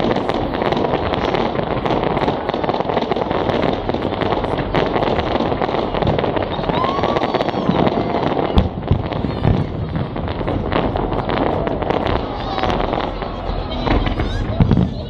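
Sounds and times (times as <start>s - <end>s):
fireworks crackling and popping: 0.0s - 15.0s
sharp firework bang: 0.0s - 15.0s.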